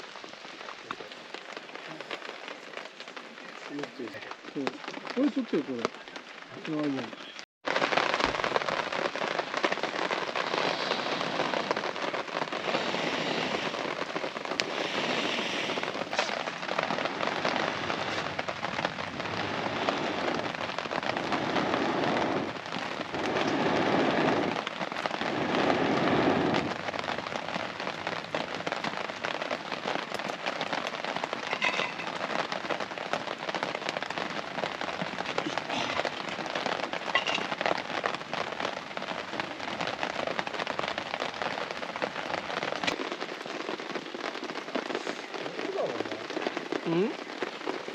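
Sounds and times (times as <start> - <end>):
rain pattering on a tarp: 0.0 - 47.9.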